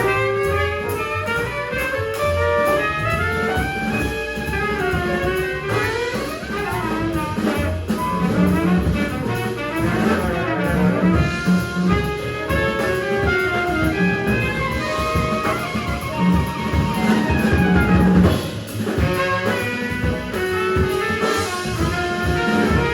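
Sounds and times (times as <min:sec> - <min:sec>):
drums: 0:00.0 - 0:22.9
saxophone: 0:00.0 - 0:22.9
trumpet: 0:00.0 - 0:22.9
walking bass: 0:00.0 - 0:22.9.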